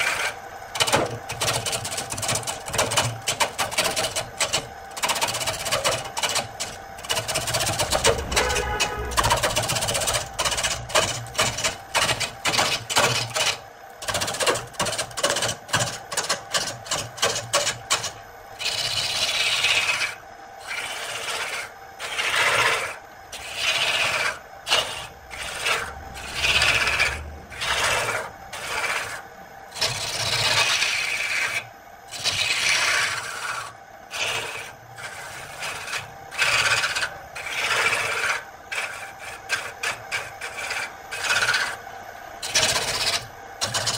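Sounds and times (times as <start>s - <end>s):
lathe gouge scraping wood: 0.0s - 41.8s, 42.4s - 43.9s.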